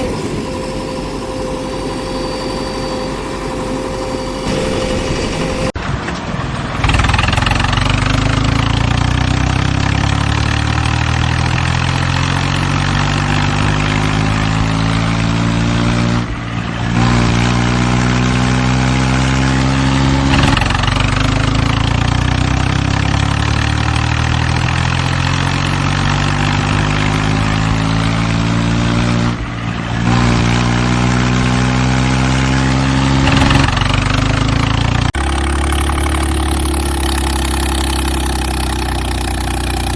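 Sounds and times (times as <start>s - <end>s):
construction vehicle engine running: 0.0s - 39.9s.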